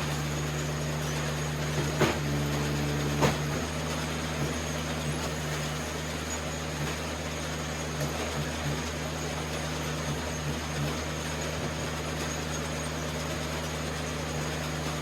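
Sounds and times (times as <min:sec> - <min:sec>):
wood splitter engine hum: 0:00.0 - 0:15.0.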